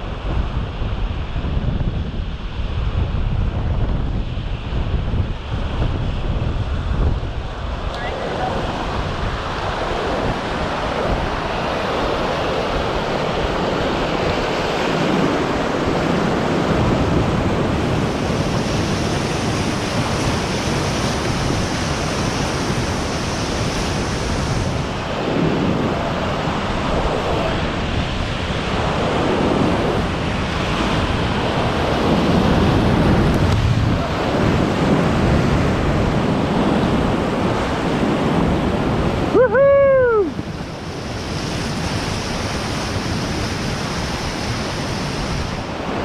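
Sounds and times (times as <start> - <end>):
whitewater rapids roaring: 7.7 - 46.0.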